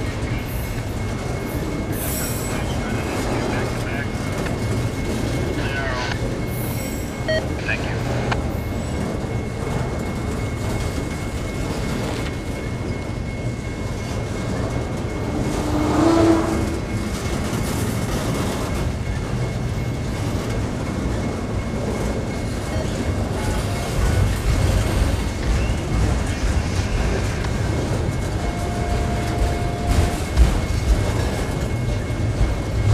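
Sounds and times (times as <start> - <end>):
train wheel squeal: 0.0 - 7.4, 8.0 - 32.9
train wheels rumbling on rails: 0.0 - 32.9.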